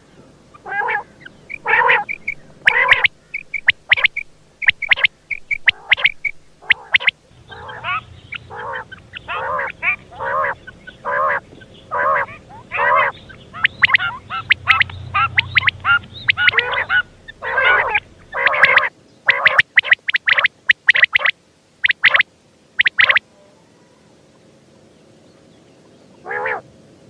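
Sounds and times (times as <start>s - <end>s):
quail calling: 0.0s - 23.2s, 26.2s - 26.7s.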